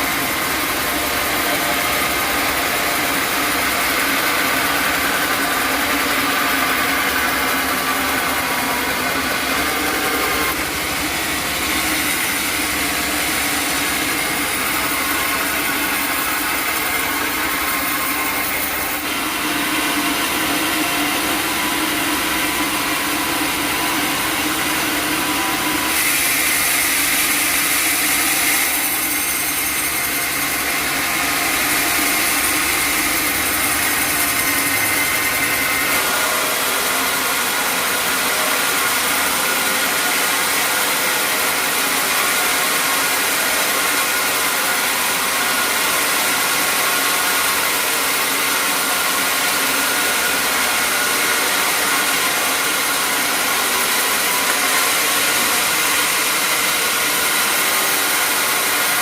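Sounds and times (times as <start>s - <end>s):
sawmill machinery hum and whine: 0.0s - 59.0s.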